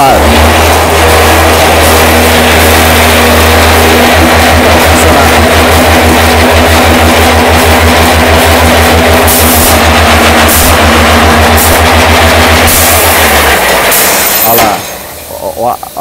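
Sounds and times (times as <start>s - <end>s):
block production machinery running: 0.0s - 16.0s.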